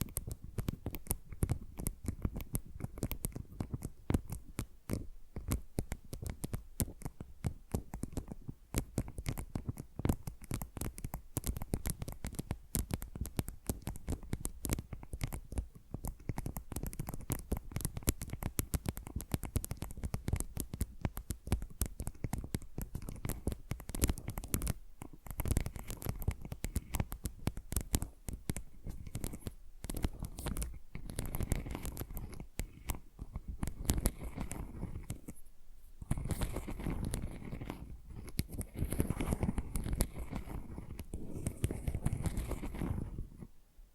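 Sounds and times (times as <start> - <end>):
fingernails scratching and tapping: 0.0 - 43.5.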